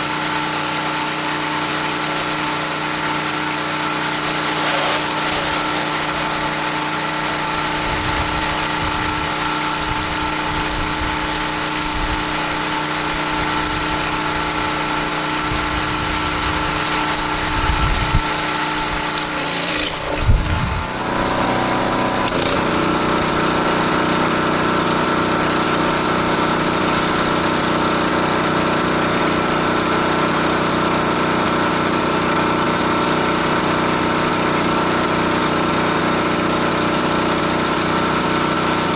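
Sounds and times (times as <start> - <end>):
constant water spray hiss: 0.0 - 38.9
pressure washer engine running: 0.0 - 38.9.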